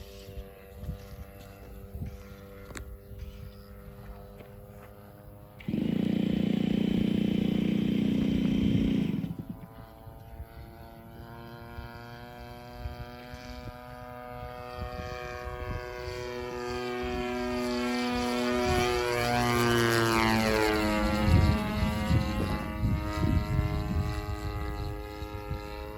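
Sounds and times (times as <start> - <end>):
model aircraft engine: 0.0 - 25.9.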